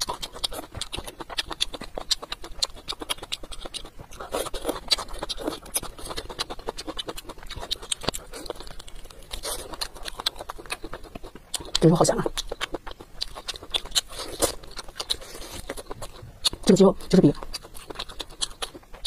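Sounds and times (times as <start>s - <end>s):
person chewing with mouth clicks: 0.0s - 19.0s.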